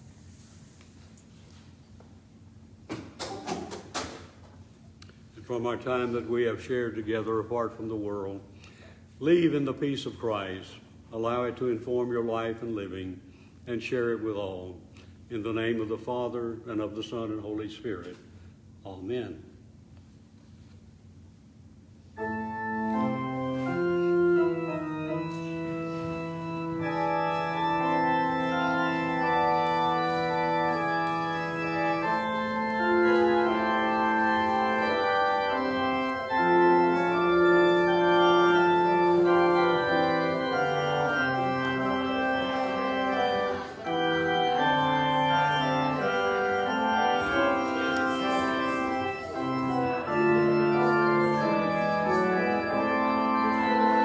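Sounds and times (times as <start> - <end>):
church organ chords: 5.2 - 19.6, 21.7 - 54.0.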